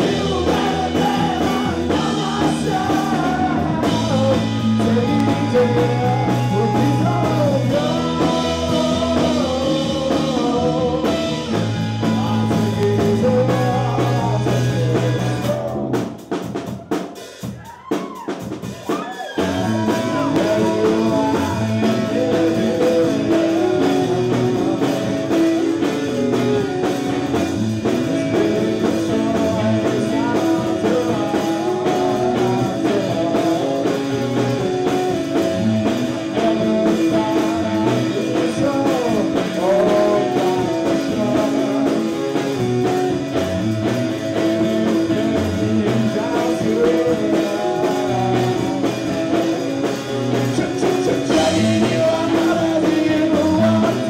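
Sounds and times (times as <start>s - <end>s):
man singing lead vocal: 0.0s - 16.1s, 18.0s - 54.0s
drum kit: 0.0s - 54.0s
electric guitars: 0.0s - 54.0s.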